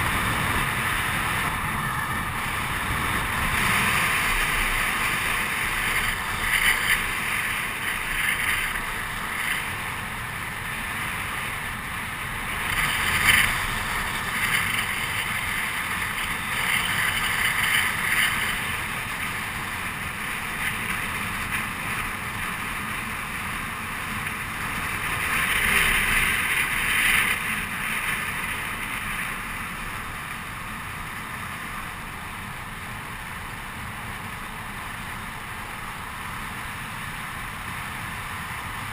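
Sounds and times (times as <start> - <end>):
skateboard wheels rolling on asphalt: 0.0 - 38.9
wind rushing over microphone: 0.0 - 38.9.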